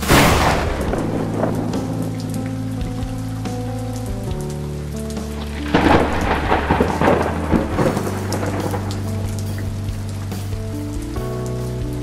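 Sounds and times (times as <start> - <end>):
rain falling: 0.0 - 12.0
thunder crackling: 0.0 - 12.0.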